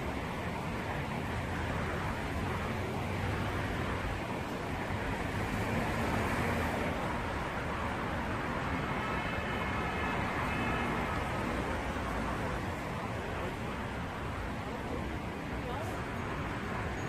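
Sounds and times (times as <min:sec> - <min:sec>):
passing cars: 0:00.0 - 0:17.0.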